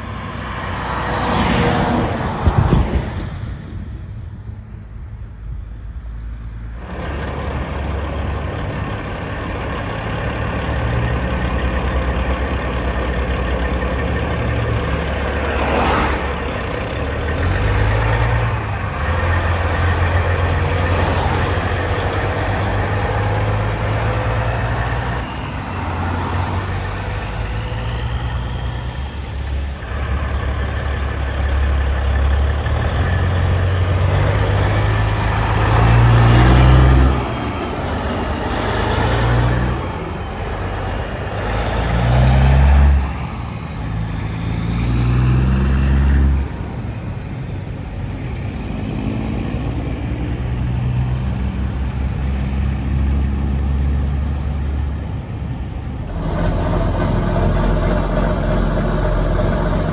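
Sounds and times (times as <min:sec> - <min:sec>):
heavy diesel truck engines: 0:00.0 - 0:59.9.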